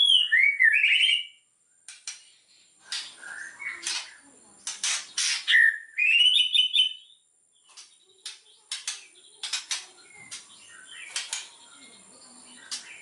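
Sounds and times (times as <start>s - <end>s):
bird singing rasping and whistled notes: 0.0s - 13.0s.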